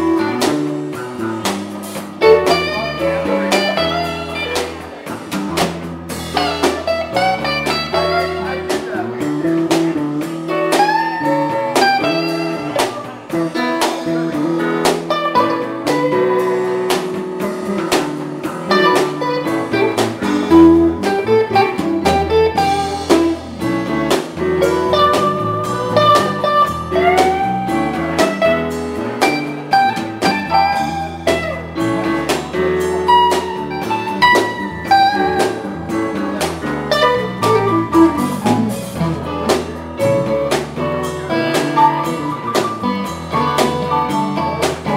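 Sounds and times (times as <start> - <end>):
blues band playing: 0.0 - 44.9
lead guitar string bends: 0.0 - 44.9.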